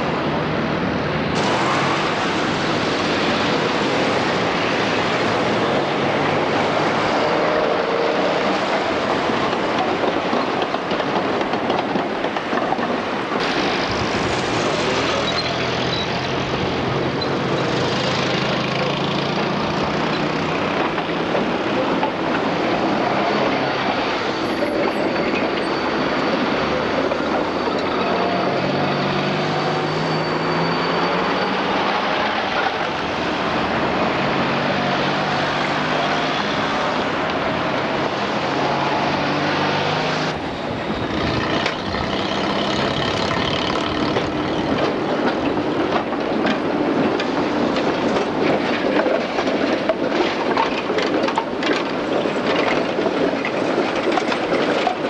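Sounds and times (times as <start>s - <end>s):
passing road traffic: 0.0s - 55.0s
tram wheels rumbling: 0.0s - 55.0s.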